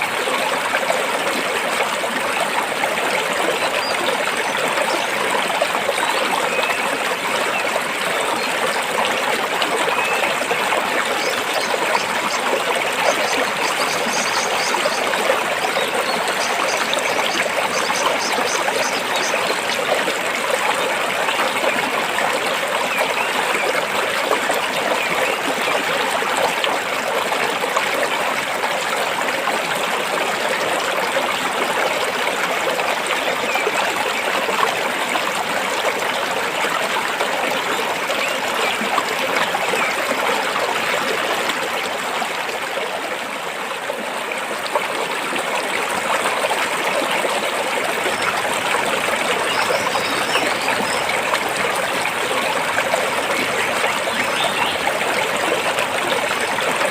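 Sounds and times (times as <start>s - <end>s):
stream water splashing over rocks: 0.0s - 56.9s.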